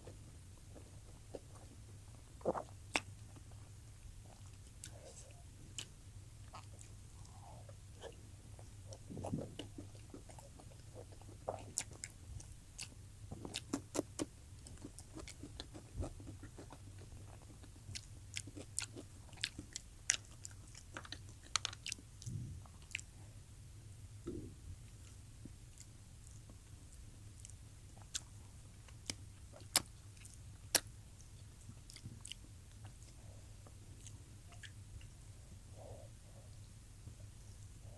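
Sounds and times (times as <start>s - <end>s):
person chewing food: 0.0s - 23.2s, 24.3s - 35.2s.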